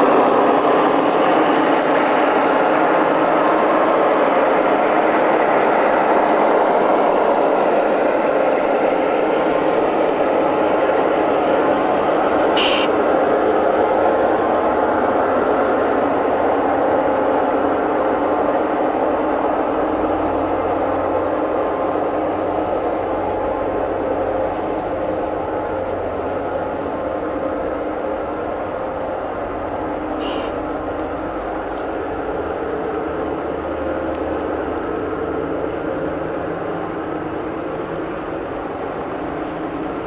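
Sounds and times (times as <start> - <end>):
model train wheels on rails: 0.0 - 40.0.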